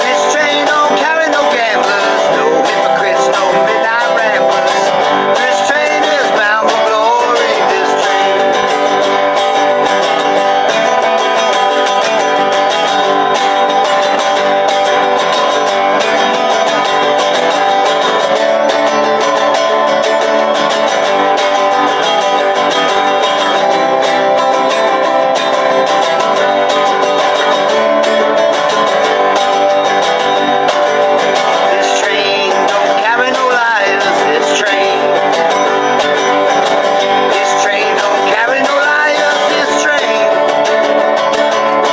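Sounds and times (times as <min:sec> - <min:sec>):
banjo: 0:00.0 - 0:41.9
harmonica: 0:00.0 - 0:41.9
strummed resonator guitar: 0:00.0 - 0:41.9.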